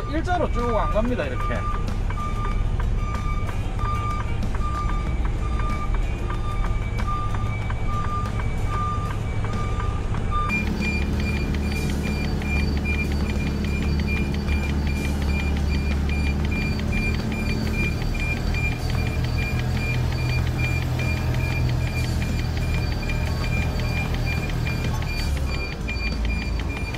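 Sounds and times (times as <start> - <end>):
diesel engine droning: 0.0 - 26.9
reversing warning beeps: 0.0 - 26.9.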